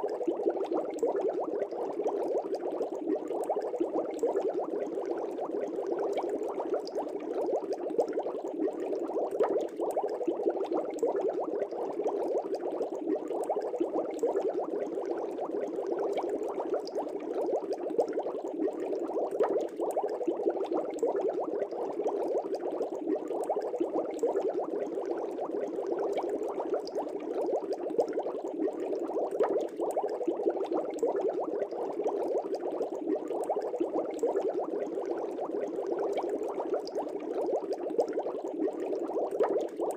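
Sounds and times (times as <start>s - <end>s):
aquarium air bubbles in water: 0.0s - 39.9s.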